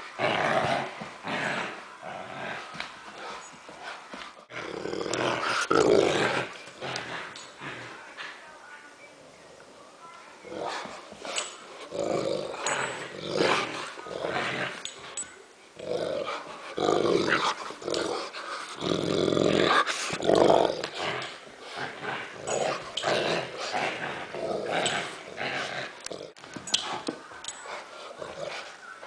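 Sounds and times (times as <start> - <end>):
dogs growling in play: 0.0 - 8.4, 10.4 - 29.0.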